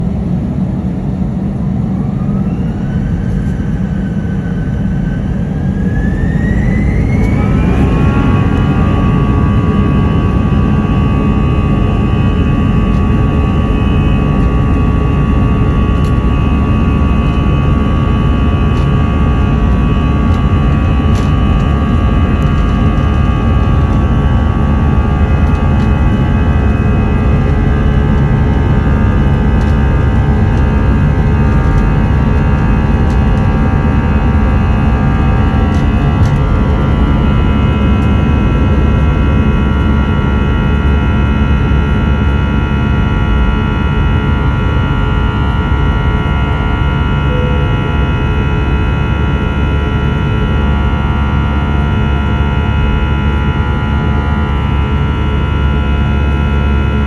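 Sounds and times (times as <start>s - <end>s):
deep jet engine rumble: 0.0s - 57.0s
jet engine whine: 0.0s - 57.0s.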